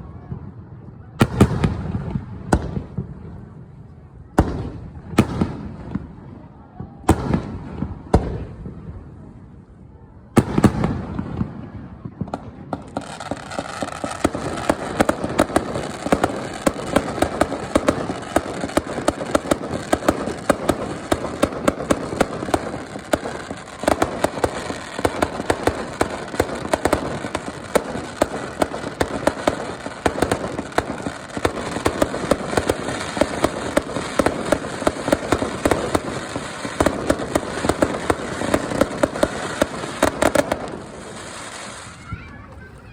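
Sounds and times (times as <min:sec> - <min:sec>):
fireworks bangs: 0:00.0 - 0:42.9
fireworks crackling: 0:00.0 - 0:42.9.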